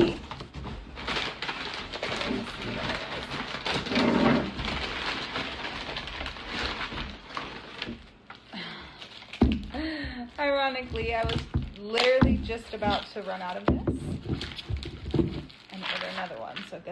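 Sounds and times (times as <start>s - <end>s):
cardboard packaging rustling: 0.0s - 16.9s.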